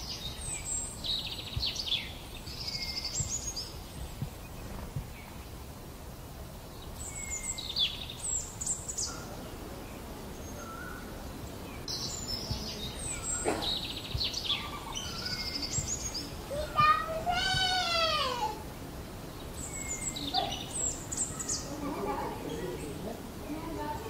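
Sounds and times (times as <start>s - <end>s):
birds chirping and calling: 0.0s - 5.6s, 6.6s - 24.0s
outdoor background noise: 0.0s - 24.0s.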